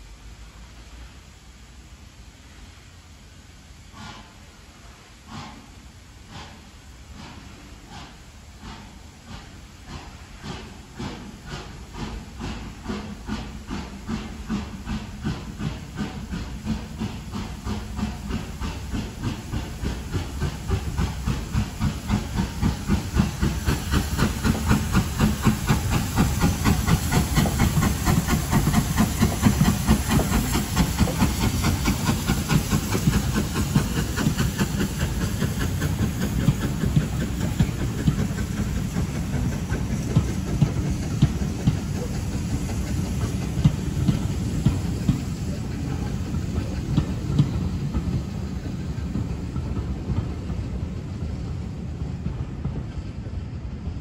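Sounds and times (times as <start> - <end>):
hissing steam: 0.0 - 54.0
steam locomotive chuffing: 0.0 - 54.0.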